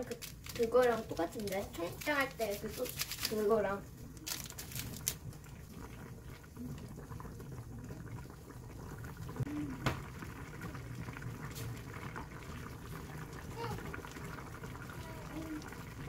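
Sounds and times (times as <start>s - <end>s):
pot boiling and bubbling: 0.0s - 16.0s.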